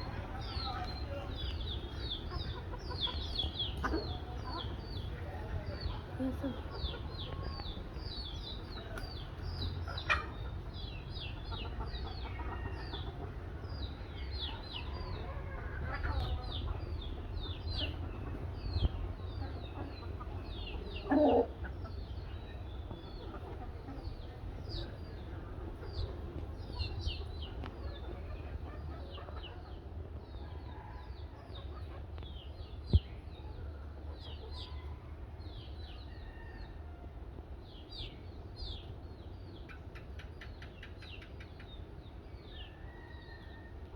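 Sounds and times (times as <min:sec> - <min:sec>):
birds chirping: 0:00.0 - 0:36.7.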